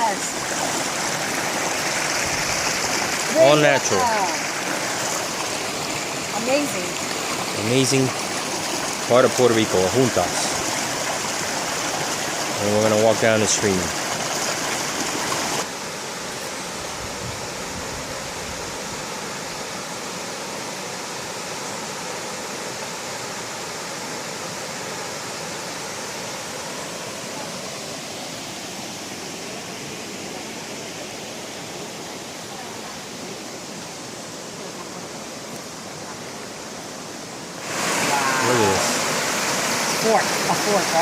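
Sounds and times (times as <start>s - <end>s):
stream splashing over rocks: 0.0s - 41.0s.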